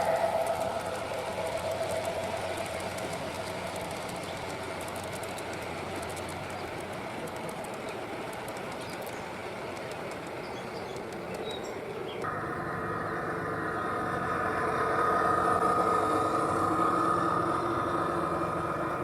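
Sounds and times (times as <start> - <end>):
model train motor and gear whine: 0.0 - 19.0.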